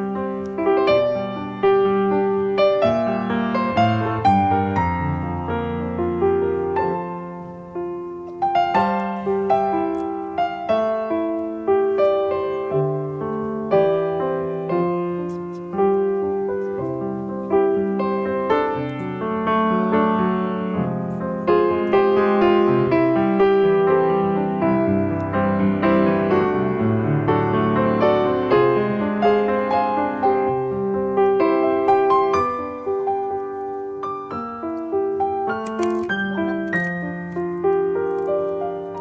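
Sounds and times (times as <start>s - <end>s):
slow piano melody: 0.0s - 39.0s.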